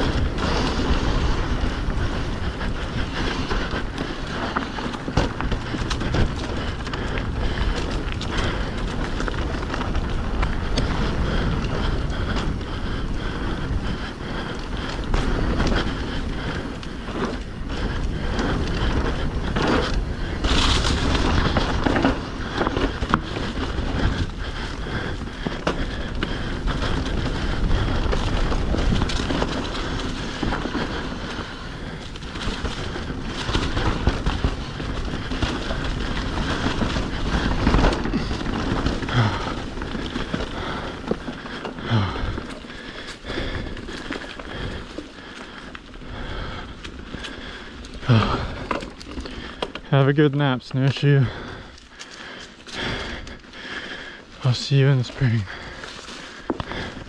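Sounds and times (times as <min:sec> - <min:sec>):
bike knocking and rattling: 0:00.0 - 0:57.0
bike tyres rolling on dirt: 0:00.0 - 0:57.0.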